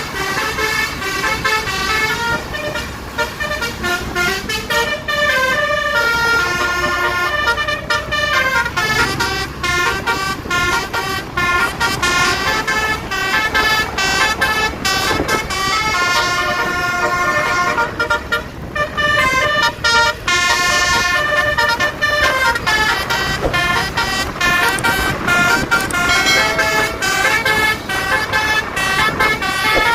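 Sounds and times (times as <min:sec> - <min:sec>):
musical air horn melody: 0:00.0 - 0:29.9.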